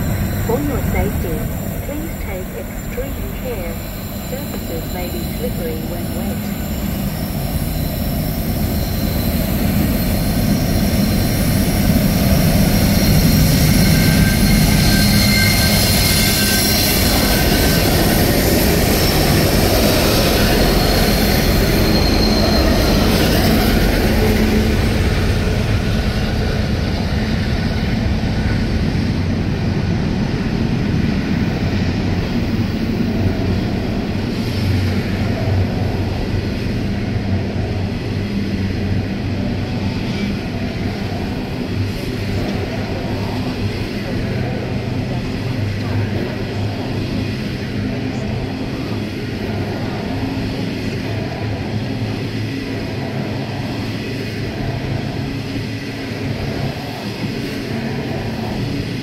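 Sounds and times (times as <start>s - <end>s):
diesel locomotives passing: 0.0s - 59.0s.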